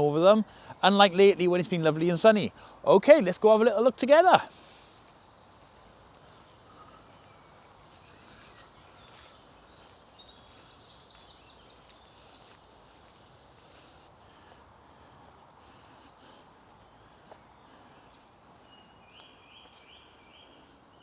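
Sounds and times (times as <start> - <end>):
soft low hiss: 0.0 - 21.0
songbirds chirping and whistling: 0.0 - 21.0.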